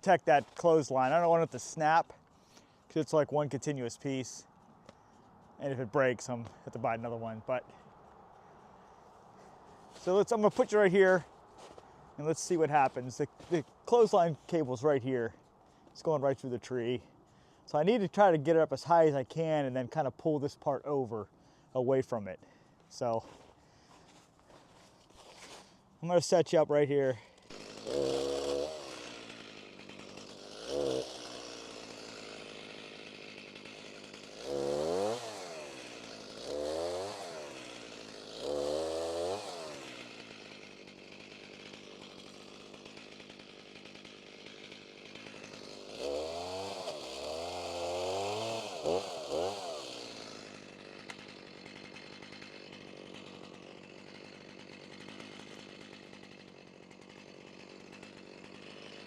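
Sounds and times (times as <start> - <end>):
chainsaw idling and revving: 0.0 - 5.0, 5.6 - 59.0.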